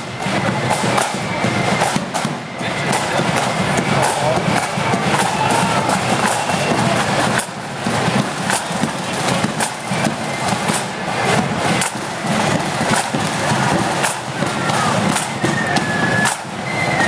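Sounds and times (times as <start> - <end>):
crowd noise: 0.0 - 17.0
marching band drums: 0.0 - 17.0.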